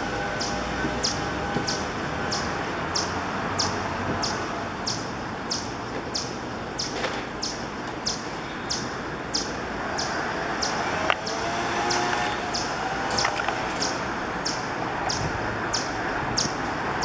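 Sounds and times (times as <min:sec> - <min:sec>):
electronic animal repeller chirping: 0:00.0 - 0:17.0.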